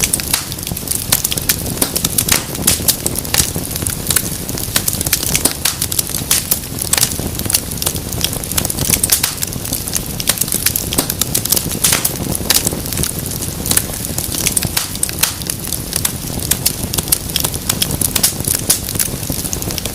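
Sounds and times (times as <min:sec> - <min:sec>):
fire crackling and popping: 0:00.0 - 0:19.9
fire flames rushing: 0:00.0 - 0:19.9.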